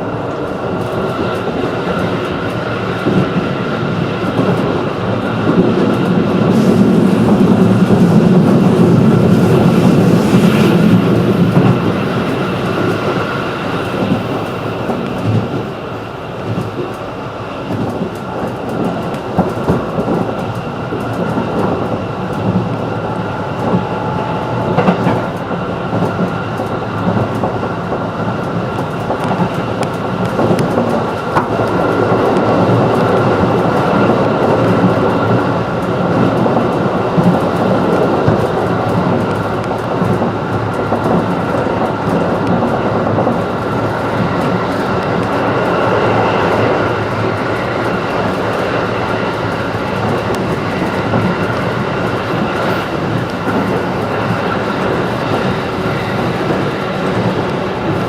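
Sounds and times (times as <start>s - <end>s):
rail joint clicks: 0.0s - 58.0s
train wheels on rail: 0.0s - 58.0s.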